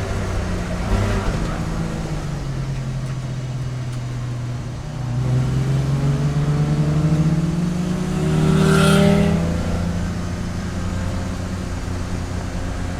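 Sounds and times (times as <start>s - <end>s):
race car engine accelerating: 0.0s - 12.9s.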